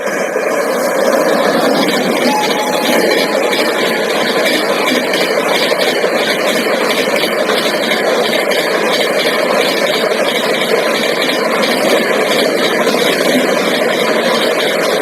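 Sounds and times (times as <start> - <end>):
train rushing at high speed: 0.0 - 15.0.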